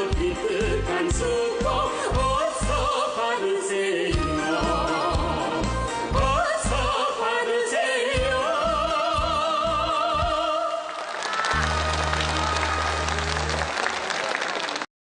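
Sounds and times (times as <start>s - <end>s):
person singing: 0.0s - 12.8s.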